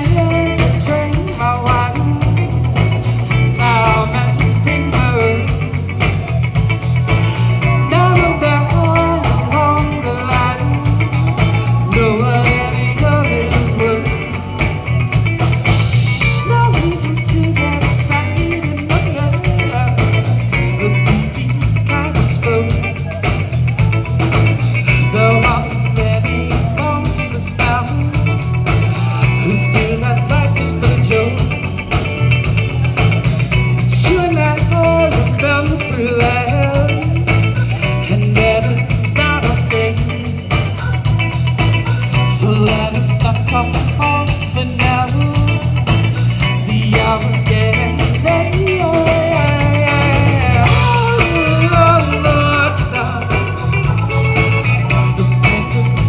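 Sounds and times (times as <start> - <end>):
drum kit: 0.0 - 56.0
electric bass: 0.0 - 56.0
electric guitar: 0.0 - 56.0
keyboard: 0.0 - 56.0.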